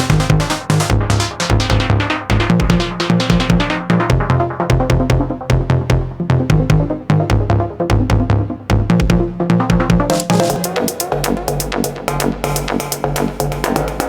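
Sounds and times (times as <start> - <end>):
drum machine beat with hi-hats: 0.0 - 14.0
synth bassline: 0.0 - 14.0.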